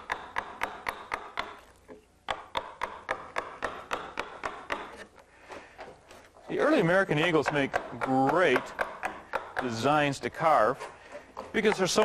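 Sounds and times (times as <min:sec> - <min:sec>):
wooden mallet striking gouge: 0:00.0 - 0:12.0.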